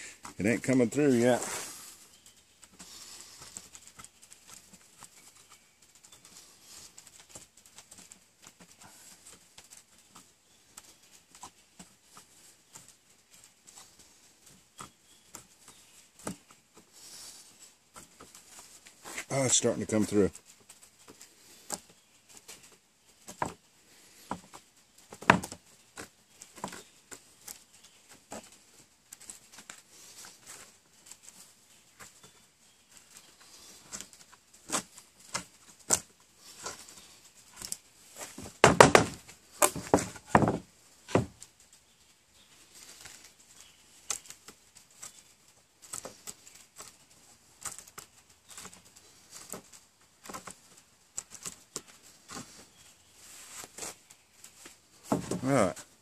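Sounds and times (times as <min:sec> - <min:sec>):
awl scraping into wood: 0:00.0 - 0:12.8, 0:13.5 - 0:41.6, 0:45.9 - 0:56.0.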